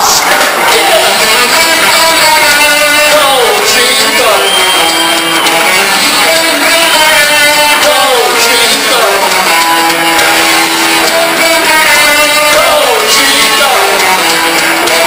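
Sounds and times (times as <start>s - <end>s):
electric guitar sliding notes: 0.0s - 15.0s
live rock band playing: 0.0s - 15.0s.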